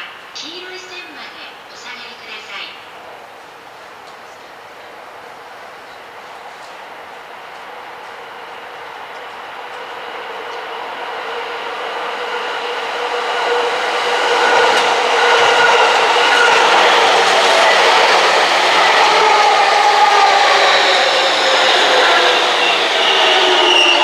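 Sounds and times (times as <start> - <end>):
electric train running rumble: 3.4 - 24.0.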